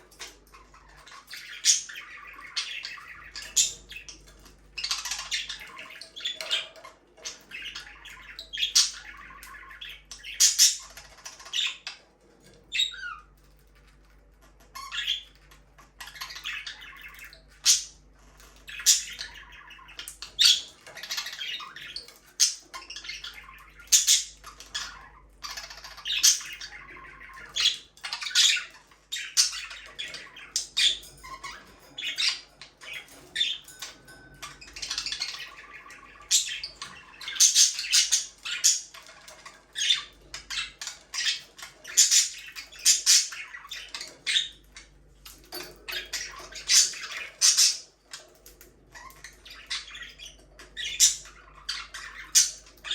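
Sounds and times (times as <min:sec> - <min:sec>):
budgerigars chirping and squawking: 0:00.0 - 0:52.9.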